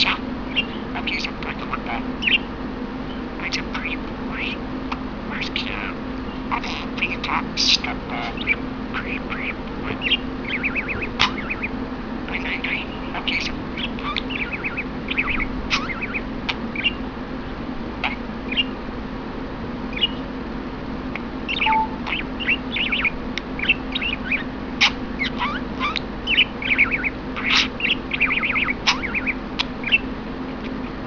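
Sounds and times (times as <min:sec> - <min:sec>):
budgerigar warbling: 0:00.0 - 0:02.5, 0:03.3 - 0:04.6, 0:05.3 - 0:17.0, 0:18.0 - 0:18.8, 0:19.9 - 0:20.2, 0:21.5 - 0:30.1
steady low hum: 0:00.0 - 0:31.0.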